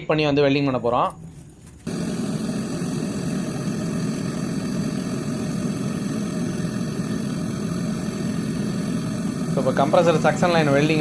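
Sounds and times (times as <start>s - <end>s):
torch flame rushing: 1.8s - 11.0s.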